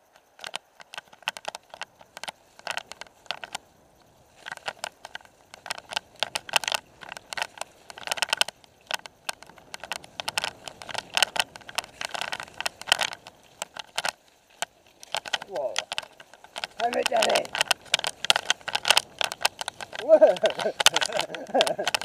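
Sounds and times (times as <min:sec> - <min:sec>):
mountain bike rattling over bumps: 0:00.0 - 0:22.0.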